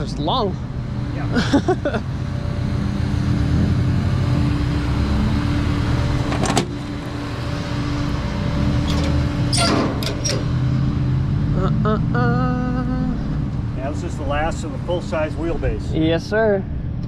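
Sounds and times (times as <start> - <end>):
truck engine idling: 0.0 - 15.8.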